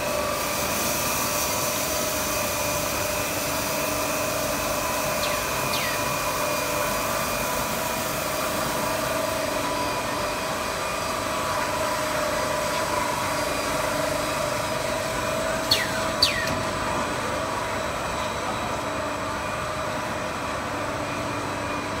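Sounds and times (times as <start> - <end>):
machine hum: 0.0 - 22.0
whining motor tones: 2.2 - 21.9.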